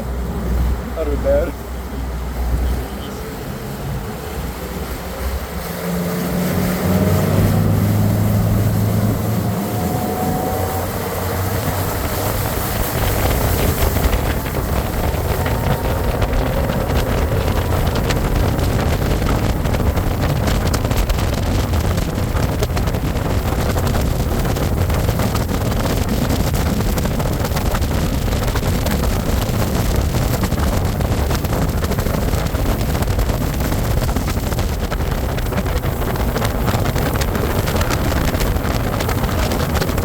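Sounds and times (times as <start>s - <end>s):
outboard motor boat running: 0.0s - 40.0s
wind buffeting microphone: 1.7s - 40.0s.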